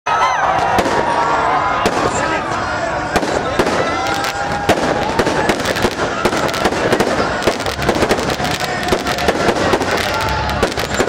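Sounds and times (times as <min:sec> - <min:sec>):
fireworks crackling and popping: 0:00.6 - 0:11.0.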